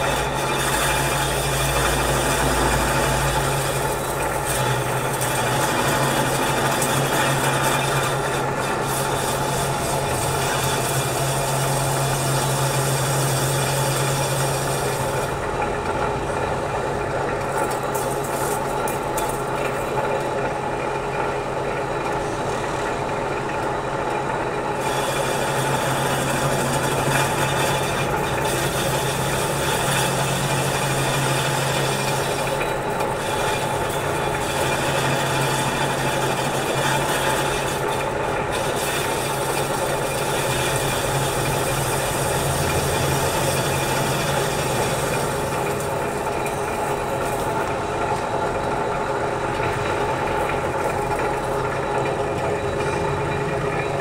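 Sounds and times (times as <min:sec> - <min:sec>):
lathe tool cutting steel: 0:00.0 - 0:54.0
metal lathe running: 0:00.0 - 0:54.0.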